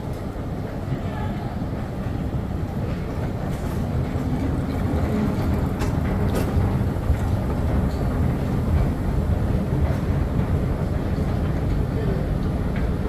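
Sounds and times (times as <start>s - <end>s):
escalator rumbling: 0.2s - 13.0s.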